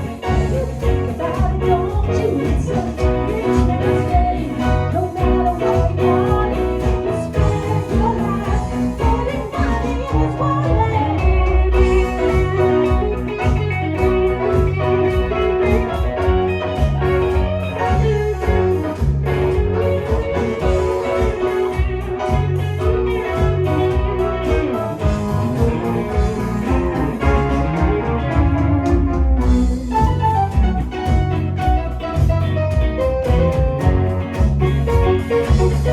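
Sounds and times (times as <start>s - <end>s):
live band playing: 0.0s - 35.9s.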